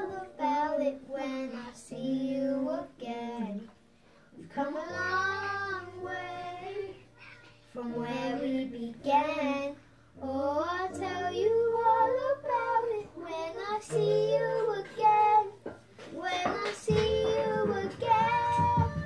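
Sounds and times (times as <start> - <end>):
boy singing a slow ballad: 0.0 - 19.0
quiet backing chords: 0.0 - 19.0.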